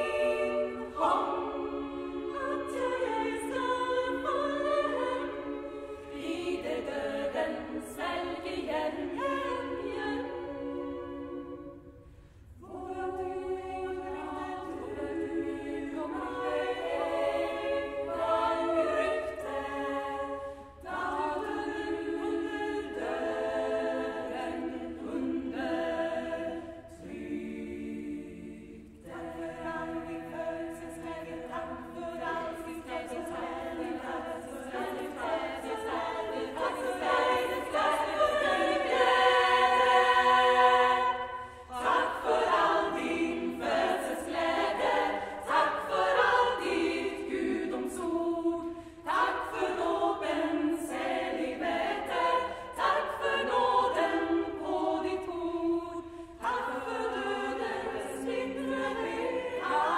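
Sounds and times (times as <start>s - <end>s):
women's choir singing a cappella: 0.0s - 59.9s.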